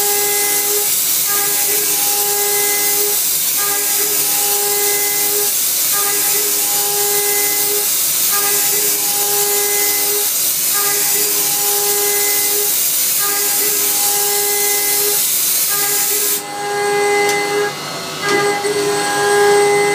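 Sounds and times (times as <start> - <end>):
steady hiss: 0.0 - 16.4
milling machine cutting whine: 0.0 - 19.9.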